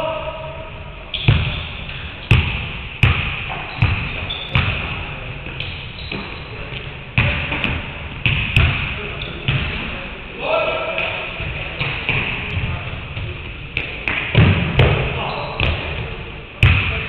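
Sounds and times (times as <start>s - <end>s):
basketballs bouncing on wooden floor: 1.2s - 9.8s, 11.0s - 17.0s.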